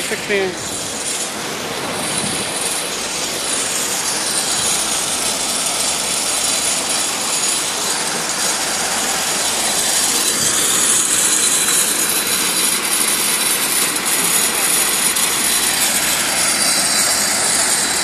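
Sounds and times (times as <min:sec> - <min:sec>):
crushing machinery running: 0:00.0 - 0:18.0.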